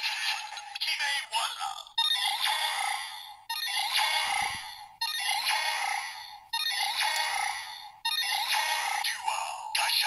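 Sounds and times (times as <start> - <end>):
toy speaker electronic music effect: 0.0 - 10.0.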